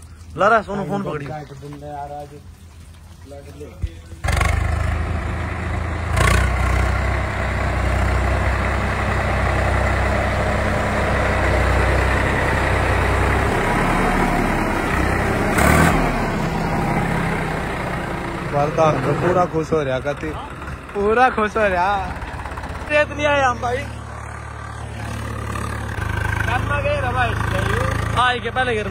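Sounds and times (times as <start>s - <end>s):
tractor diesel engine under load: 0.0s - 28.9s.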